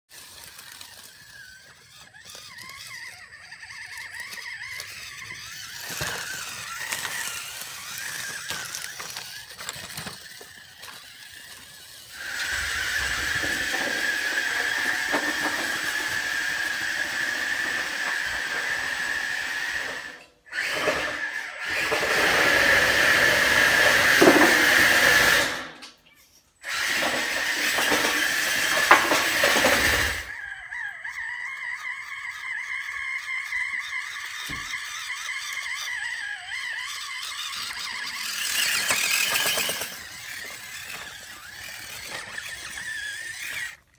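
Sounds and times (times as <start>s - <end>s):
electric motor and gear whine: 0.1s - 43.9s.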